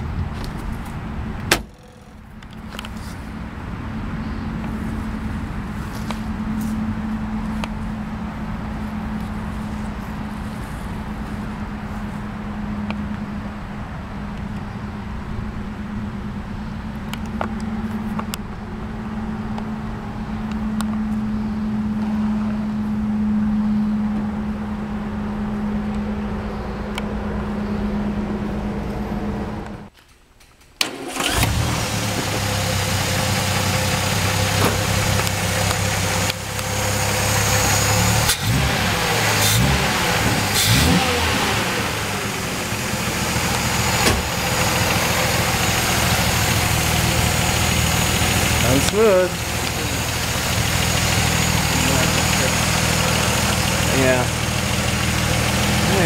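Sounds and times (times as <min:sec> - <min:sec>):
car engine idling: 0:00.0 - 0:29.9, 0:30.8 - 0:56.0.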